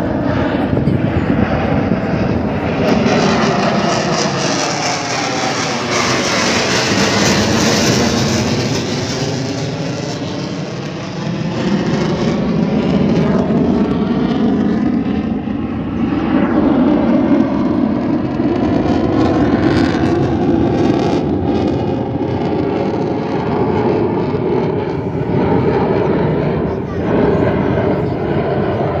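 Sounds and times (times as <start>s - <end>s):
jet engines roaring in flyby: 0.0s - 29.0s.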